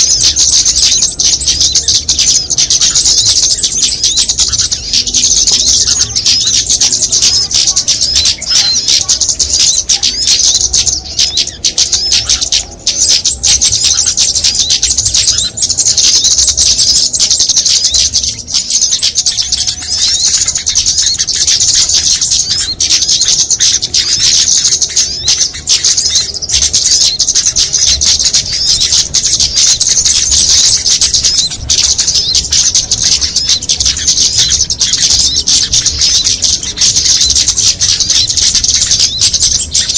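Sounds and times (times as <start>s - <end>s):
many songbirds chirping: 0.0s - 39.9s.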